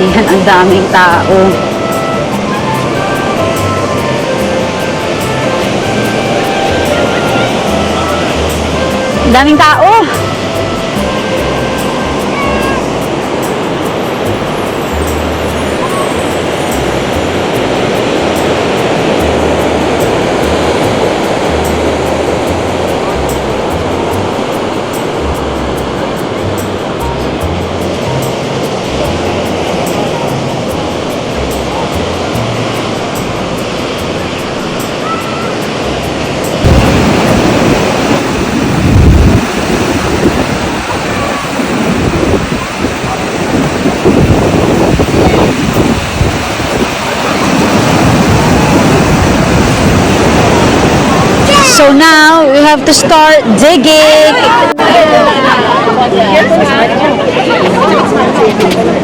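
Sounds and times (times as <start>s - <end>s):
ocean surf: 0.0s - 59.0s
wind buffeting microphone: 0.0s - 59.0s.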